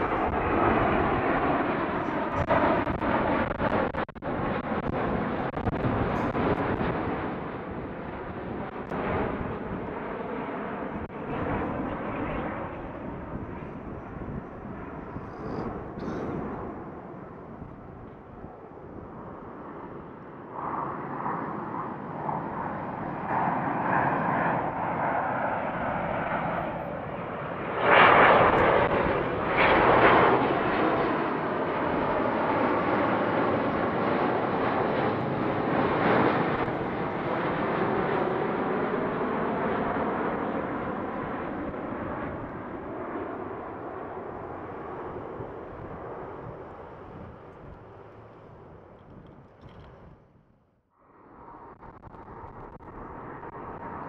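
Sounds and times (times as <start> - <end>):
jet airliner passing: 0.0 - 54.0.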